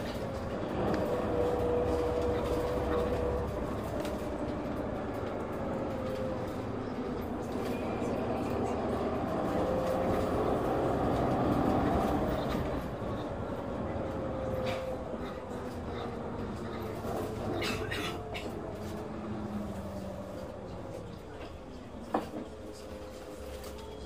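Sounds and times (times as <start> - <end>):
bus engine hum: 0.0 - 24.0.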